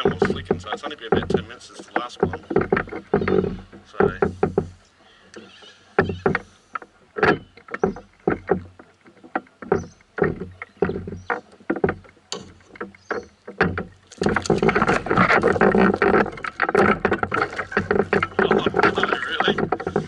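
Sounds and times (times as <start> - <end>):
knocks against a canoe: 0.0 - 20.0
rustling: 0.0 - 20.0.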